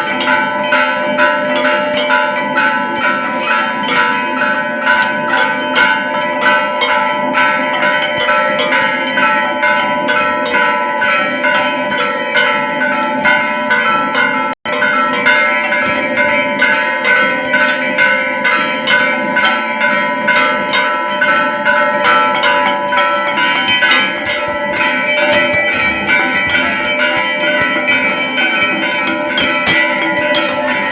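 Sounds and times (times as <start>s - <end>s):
temple bells clanging: 0.0s - 30.9s.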